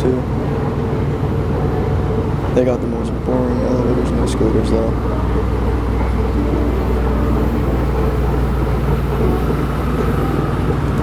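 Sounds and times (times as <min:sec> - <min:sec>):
escalator humming: 0:00.0 - 0:11.0.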